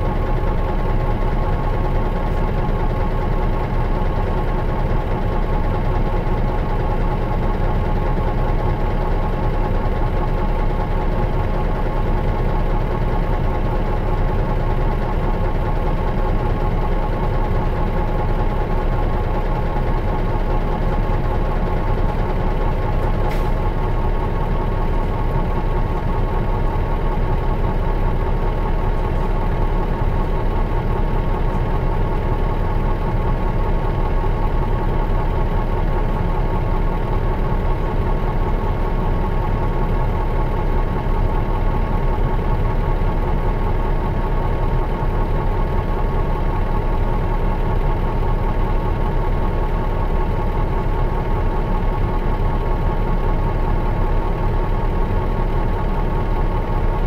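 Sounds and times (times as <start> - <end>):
diesel coach engine idling: 0.0 - 57.0.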